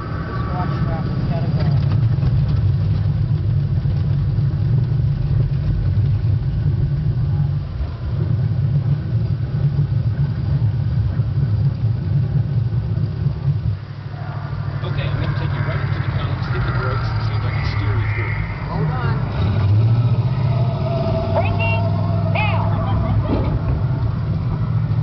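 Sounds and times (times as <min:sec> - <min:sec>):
vehicle rumbling over rough road: 0:00.0 - 0:25.0.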